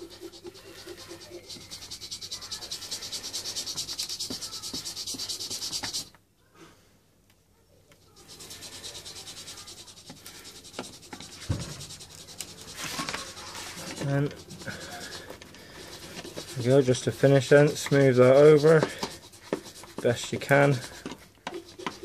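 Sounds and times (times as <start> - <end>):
tool rasping plastic: 0.0 - 6.1, 8.1 - 22.0.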